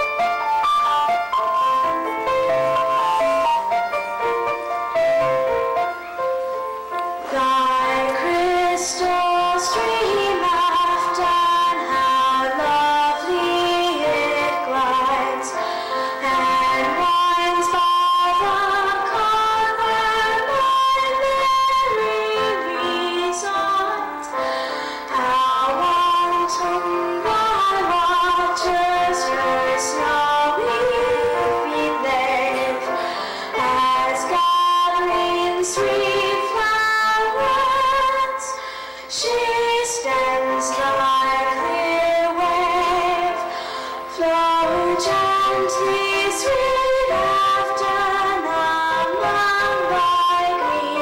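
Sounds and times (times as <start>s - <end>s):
instrumental accompaniment: 0.0s - 51.0s
girl singing: 7.1s - 51.0s.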